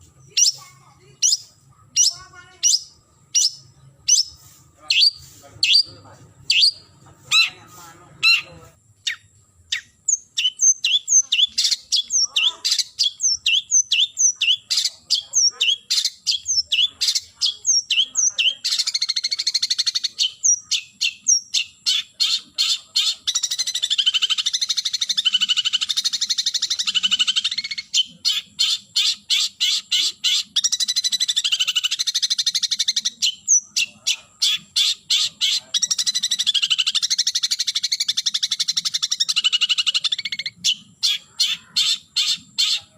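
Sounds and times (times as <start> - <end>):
bird harsh chattering: 0.0 - 42.9.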